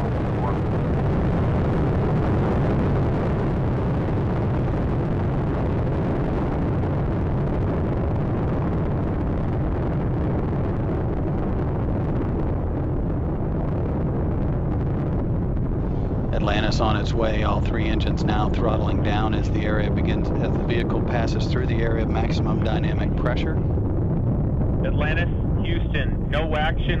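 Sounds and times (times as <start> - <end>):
deep rocket engine roar: 0.0 - 27.0.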